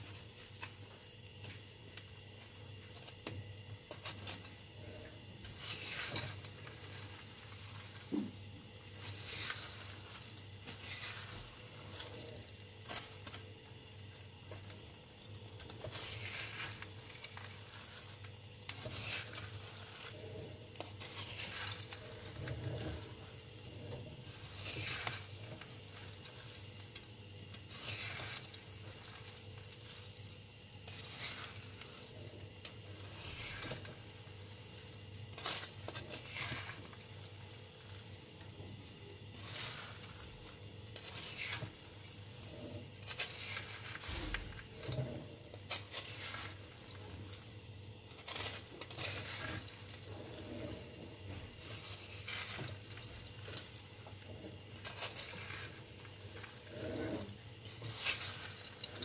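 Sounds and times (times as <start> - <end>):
wooden spatula scraping metal pan: 3.9 - 13.4, 14.5 - 59.0.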